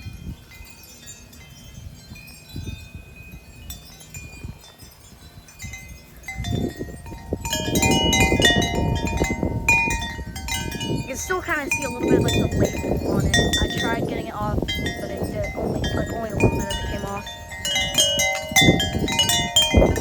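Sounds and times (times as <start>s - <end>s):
tubular wind chimes ringing: 0.0s - 20.0s
wind rumble on microphone: 0.0s - 20.0s.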